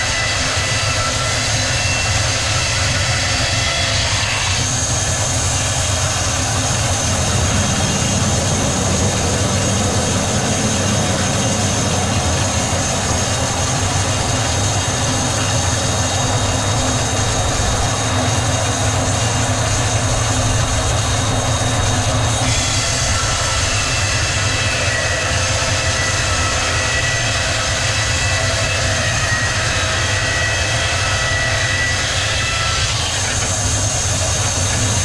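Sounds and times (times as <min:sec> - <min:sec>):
high steady whine: 0:00.0 - 0:35.0
sawmill machinery running: 0:00.0 - 0:35.0.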